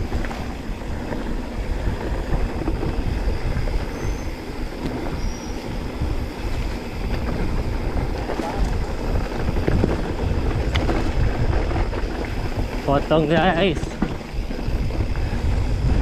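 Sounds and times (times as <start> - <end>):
bike clattering over bumps: 0.0 - 16.0
bike tyres rumbling on dirt: 0.0 - 16.0
wind on microphone: 0.0 - 16.0.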